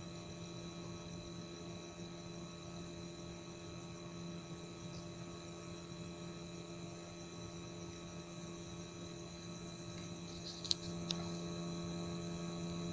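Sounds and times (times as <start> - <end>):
electrical hum: 0.0 - 12.9.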